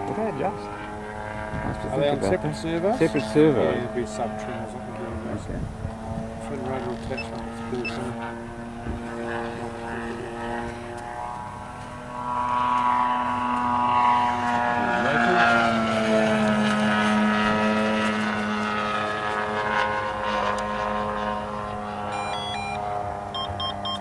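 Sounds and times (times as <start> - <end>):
model airplane engine flying past: 0.0 - 24.0
steady humming tone: 0.0 - 24.0.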